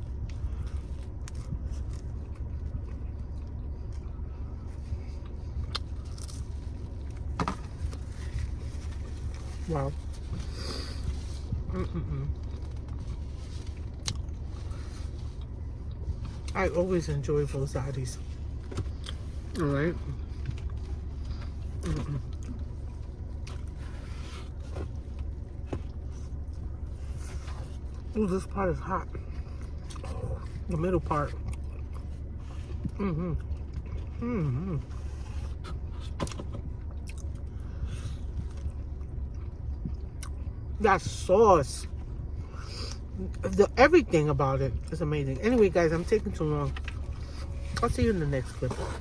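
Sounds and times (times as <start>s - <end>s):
car idling rumble: 0.0s - 49.0s.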